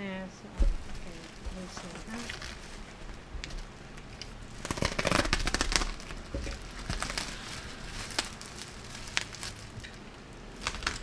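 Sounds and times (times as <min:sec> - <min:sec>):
packaging crackling: 0:00.6 - 0:11.0.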